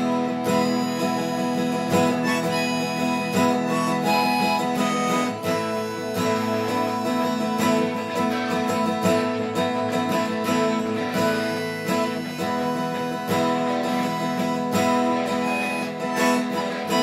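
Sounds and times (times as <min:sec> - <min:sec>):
harmonica melody: 0:00.0 - 0:17.0
strummed acoustic guitar: 0:00.0 - 0:17.0.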